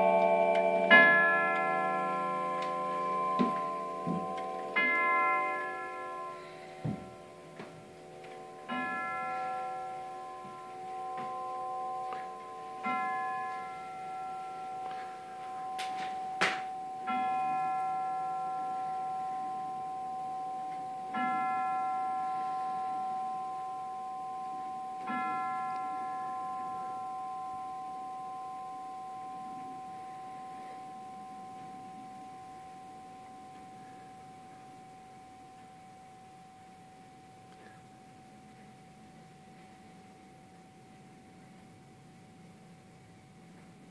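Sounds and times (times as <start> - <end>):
clock chime tubes striking: 0.0 - 42.0.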